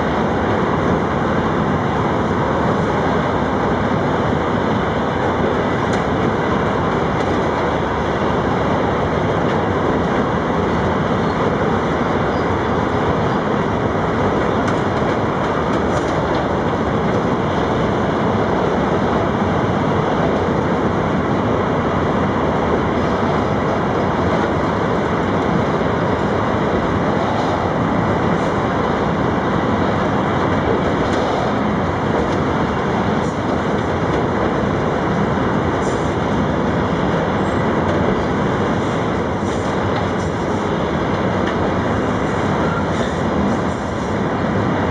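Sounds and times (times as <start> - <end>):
freight train rumbling on rails: 0.0 - 44.9.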